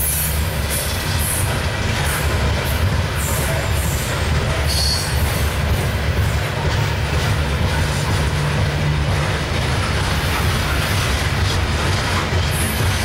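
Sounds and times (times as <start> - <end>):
freight train rumbling past: 0.0 - 13.0
steel wheels clicking over rails: 0.0 - 13.0.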